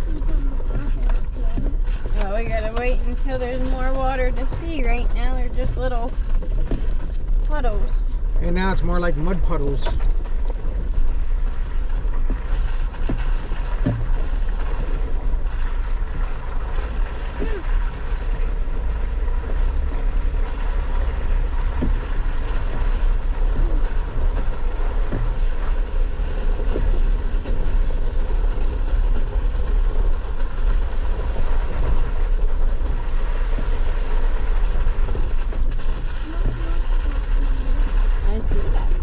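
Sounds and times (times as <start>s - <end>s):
off-road vehicle engine rumble: 0.0s - 39.0s.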